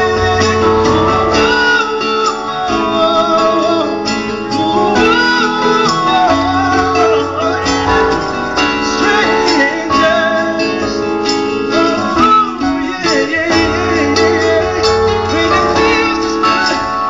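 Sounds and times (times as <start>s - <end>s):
acoustic guitar: 0.0s - 17.0s
keyboard: 0.0s - 17.0s
man singing: 0.0s - 17.0s.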